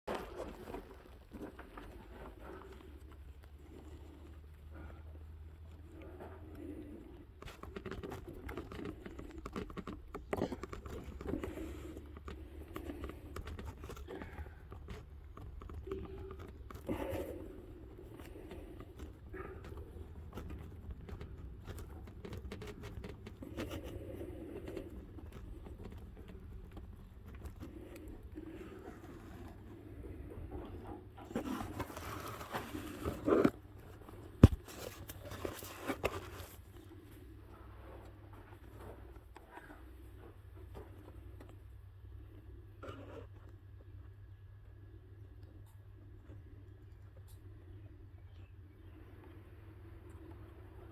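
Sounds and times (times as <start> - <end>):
rustling and scraping: 0.1 - 44.0.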